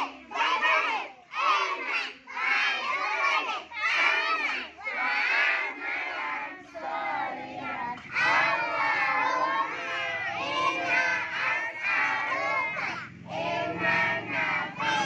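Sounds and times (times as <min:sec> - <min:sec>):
children shouting a chant: 0:00.0 - 0:15.0.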